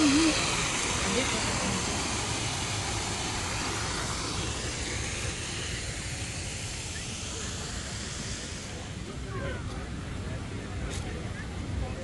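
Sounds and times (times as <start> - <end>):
low rumble: 0.0 - 10.6
fountain jets splashing: 0.0 - 12.0.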